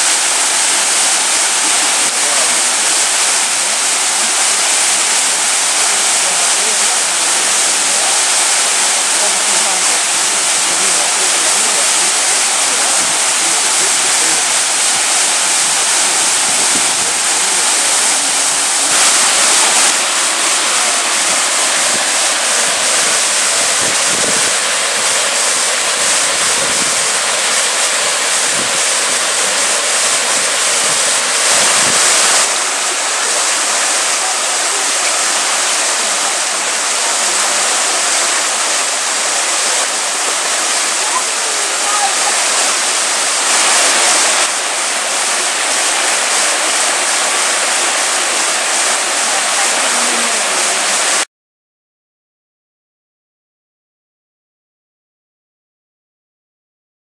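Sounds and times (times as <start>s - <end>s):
waterfall and stream rushing: 0.0s - 51.3s.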